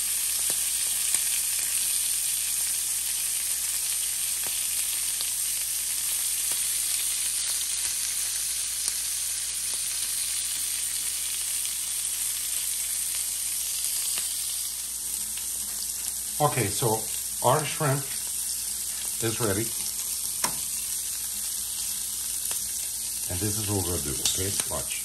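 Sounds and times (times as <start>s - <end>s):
shrimp sizzling in a grill pan: 0.0s - 25.0s.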